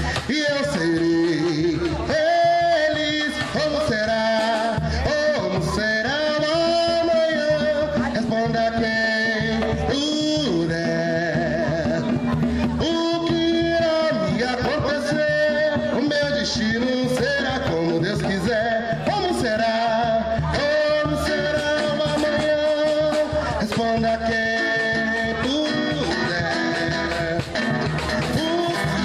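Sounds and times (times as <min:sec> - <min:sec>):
acoustic guitar: 0:00.0 - 0:29.0
hand drums: 0:00.0 - 0:29.0
man singing: 0:00.0 - 0:29.0.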